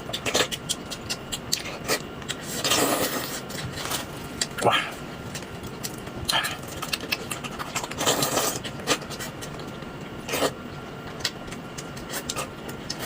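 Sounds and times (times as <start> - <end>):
chewing and mouth clicks: 0.0 - 3.0, 5.3 - 13.0.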